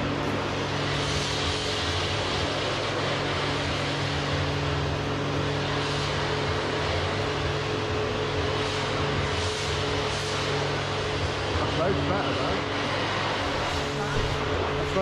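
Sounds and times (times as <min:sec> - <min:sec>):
low machine-like hum: 0:00.0 - 0:15.0.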